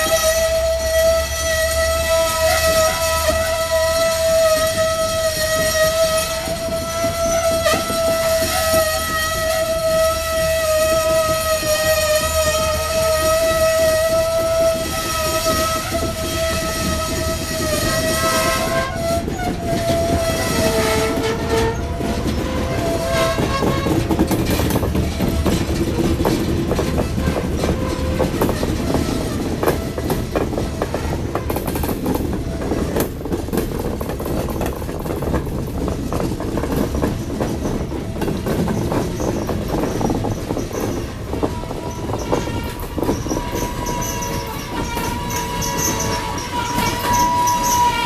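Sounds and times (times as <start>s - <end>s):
locomotive air horn blowing: 0.0s - 33.3s, 39.6s - 48.0s
train rumbling past: 0.0s - 48.0s
wheels clacking over rail joints: 0.0s - 48.0s.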